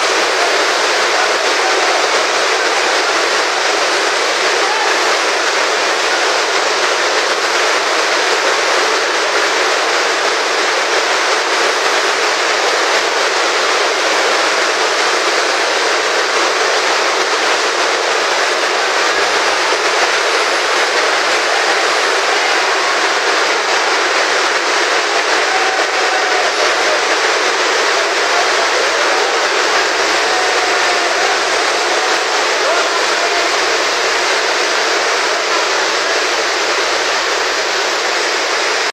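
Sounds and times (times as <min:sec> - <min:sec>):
heavy rain on tent canvas: 0:00.0 - 0:38.9.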